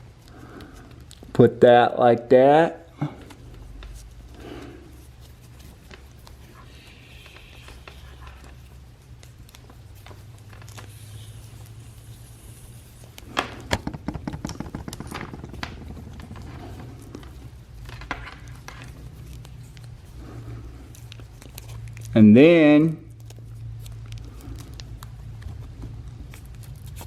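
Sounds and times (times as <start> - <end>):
cable handling clicks and rustles: 0.0 - 1.4, 3.0 - 22.2, 23.0 - 27.0.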